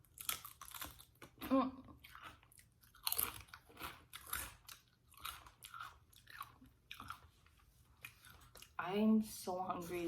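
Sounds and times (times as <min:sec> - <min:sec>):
chewing food: 0:00.0 - 0:09.0.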